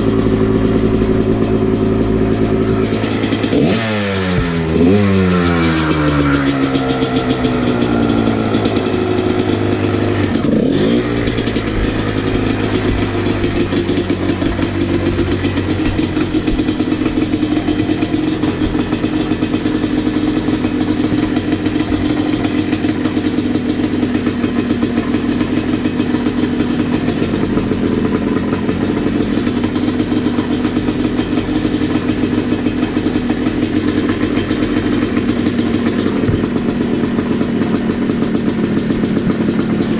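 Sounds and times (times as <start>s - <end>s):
dirt bike engine idling: 0.0s - 39.9s.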